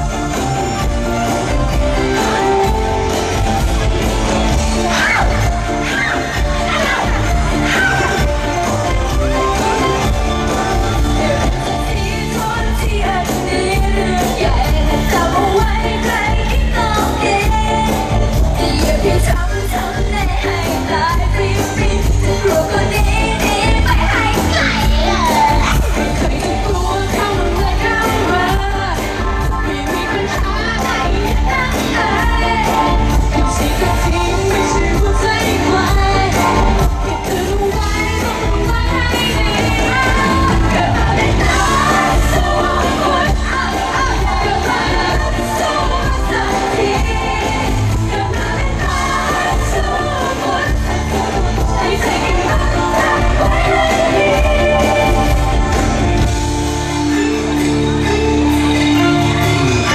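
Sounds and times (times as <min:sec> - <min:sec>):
live pop song with band: 0:00.0 - 0:59.9
loud backing music with bass: 0:00.0 - 0:59.9.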